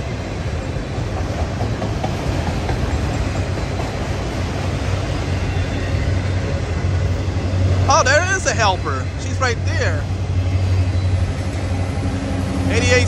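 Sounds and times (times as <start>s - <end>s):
steel wheels clattering on rail: 0.0s - 13.0s.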